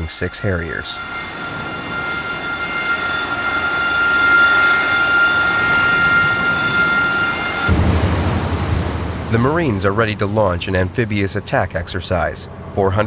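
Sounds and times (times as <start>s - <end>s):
jet engine whining: 0.0s - 13.0s
low hum: 0.0s - 13.0s.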